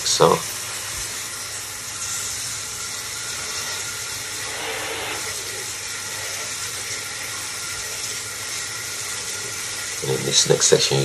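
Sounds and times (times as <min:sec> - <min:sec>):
shower water spraying on plastic: 0:00.0 - 0:11.0.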